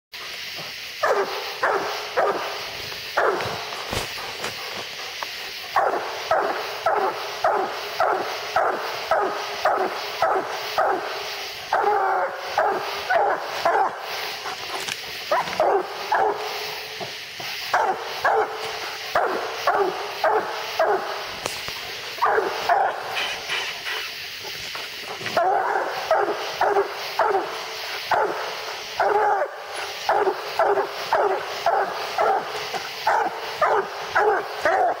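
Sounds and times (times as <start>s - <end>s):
dog barking rapidly: 1.0s - 4.6s, 5.7s - 14.5s, 15.2s - 16.6s, 17.7s - 21.4s, 22.1s - 24.2s, 25.2s - 35.0s.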